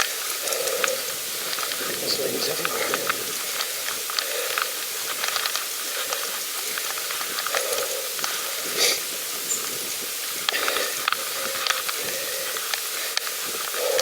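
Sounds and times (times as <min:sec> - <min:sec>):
wind and bicycle tyre noise: 0:00.0 - 0:14.0.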